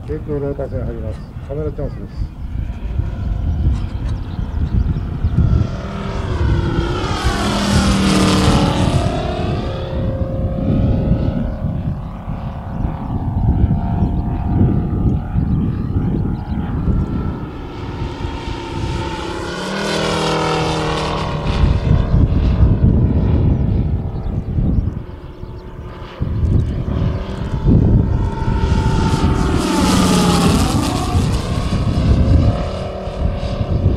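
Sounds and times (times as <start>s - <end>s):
model plane engine passing: 0.0s - 33.9s.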